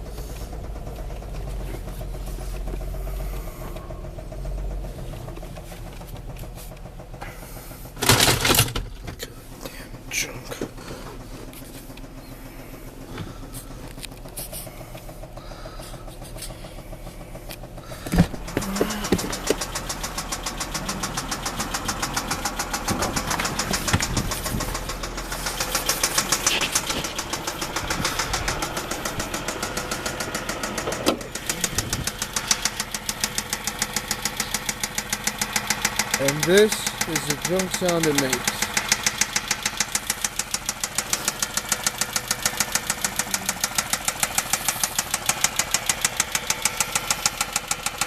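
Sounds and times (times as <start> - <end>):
car engine running: 0.0 - 48.0
rapid ticking knock from engine: 0.0 - 48.0.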